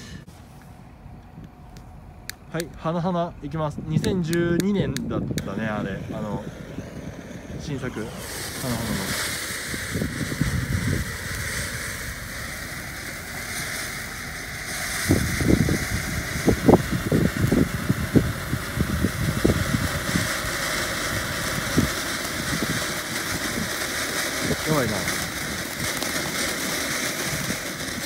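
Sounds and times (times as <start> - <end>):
fountain fireworks hissing: 0.0 - 0.6, 2.3 - 28.0.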